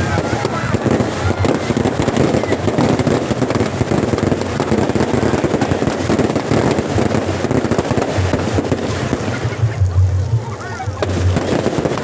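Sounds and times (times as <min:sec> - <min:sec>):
firecrackers popping rapidly: 0:00.0 - 0:12.0.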